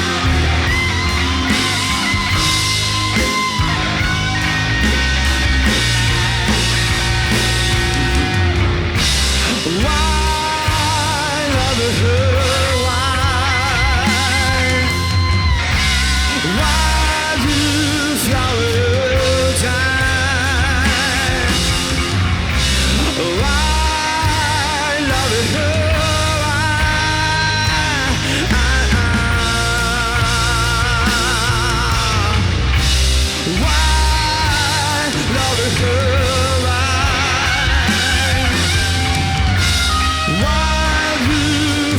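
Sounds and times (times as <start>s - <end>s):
rock band playing: 0.0s - 41.9s
wavering lead melody: 0.0s - 41.9s.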